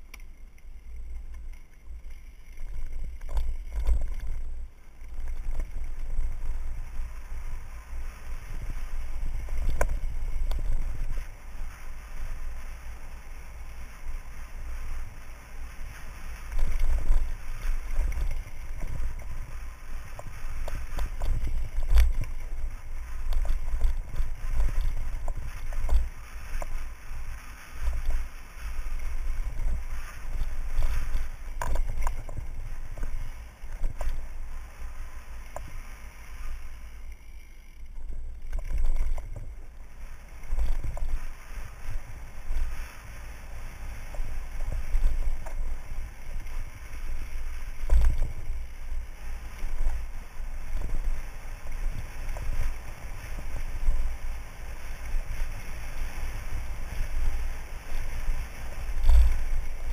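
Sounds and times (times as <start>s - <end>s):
bike rattling over rough ground: 0.0s - 59.9s.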